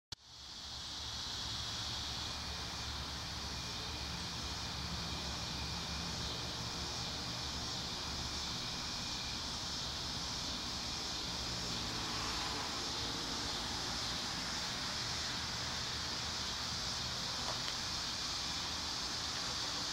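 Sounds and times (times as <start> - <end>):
high hiss: 0.1 - 19.9.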